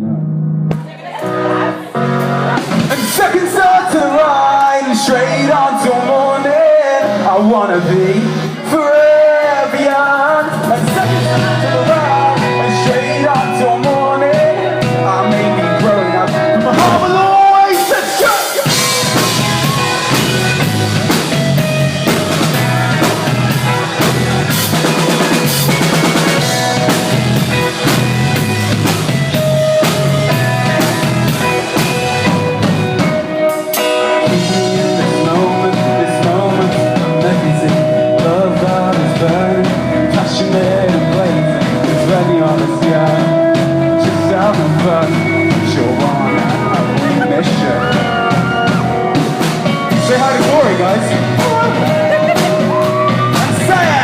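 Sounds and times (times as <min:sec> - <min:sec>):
bass guitar: 0:00.0 - 0:54.0
electric guitars: 0:00.0 - 0:54.0
drum kit steady beat: 0:00.8 - 0:06.0, 0:10.4 - 0:54.0.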